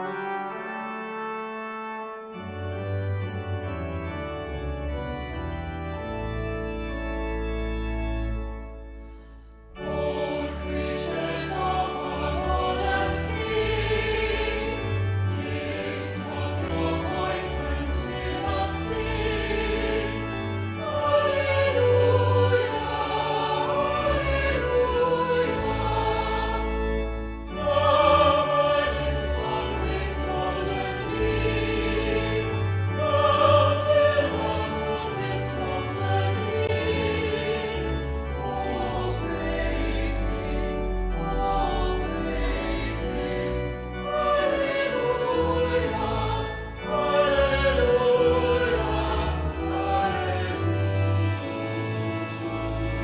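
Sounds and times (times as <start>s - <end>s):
choir singing: 0.0s - 1.7s, 9.8s - 53.0s.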